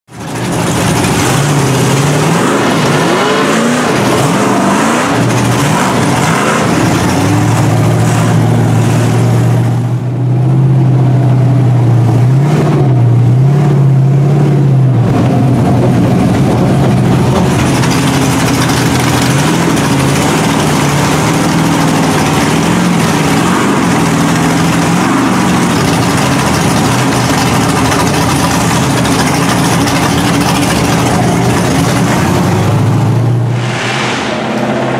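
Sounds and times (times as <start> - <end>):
truck pushing through water: 0.1 - 34.0
truck engine revving: 0.1 - 34.9.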